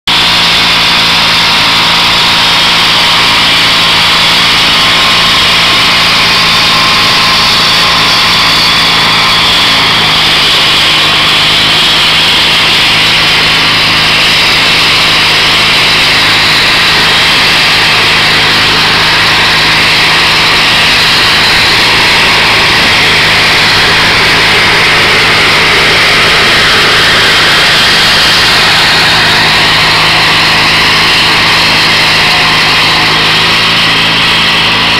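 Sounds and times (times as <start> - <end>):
garden tractor engine running: 0.0 - 34.9
rotary tiller in wet soil: 0.0 - 34.9.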